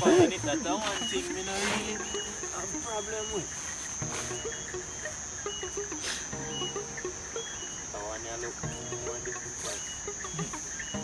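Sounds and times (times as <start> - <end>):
crickets trilling: 0.0 - 11.0
music with repeating chords: 0.0 - 11.0.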